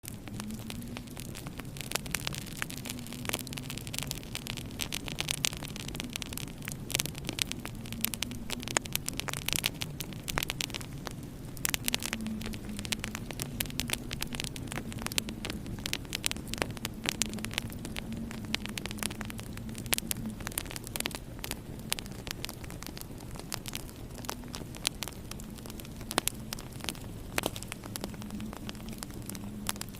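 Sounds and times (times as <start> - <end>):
low steady hum: 0.0 - 29.9
sharp pops of fire: 0.0 - 29.9
wood fire crackling: 0.0 - 29.9.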